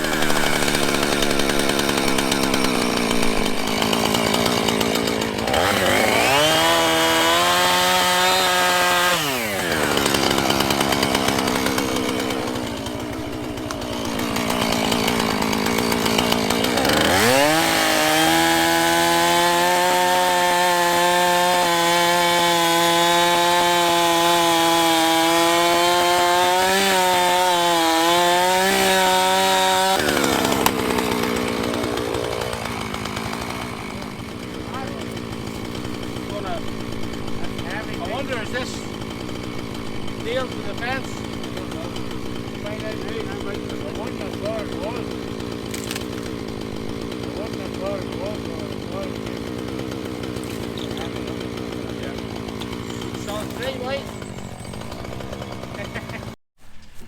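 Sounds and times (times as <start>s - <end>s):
chainsaw idling: 0.0s - 56.4s
chainsaw revving: 0.0s - 56.4s.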